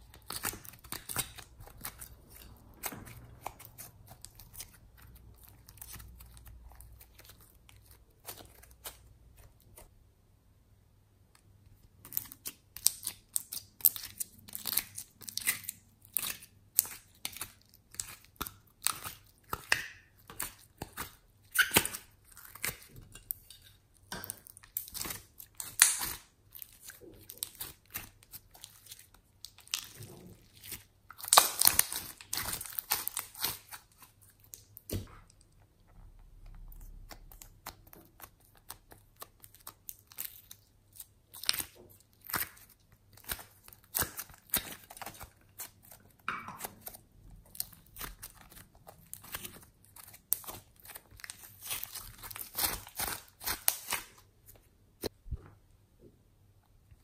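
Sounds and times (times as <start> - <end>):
hands squishing slime: 0.0 - 10.1, 11.3 - 55.5.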